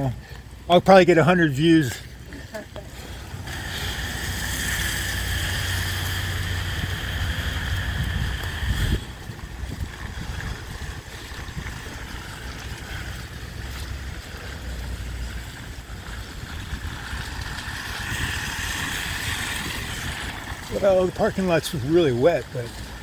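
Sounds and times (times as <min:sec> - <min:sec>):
steady outdoor hiss: 0:00.0 - 0:23.0
wind buffeting microphone: 0:03.0 - 0:23.0.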